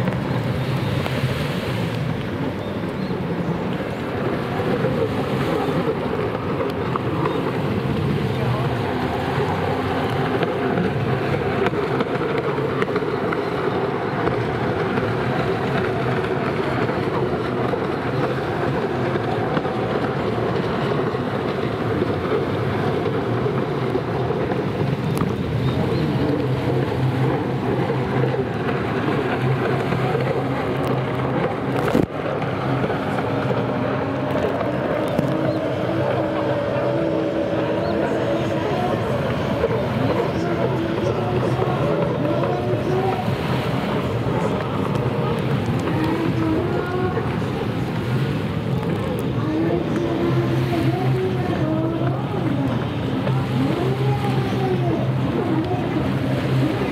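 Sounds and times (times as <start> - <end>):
jet ski engines at high revs: 0.0 - 56.9.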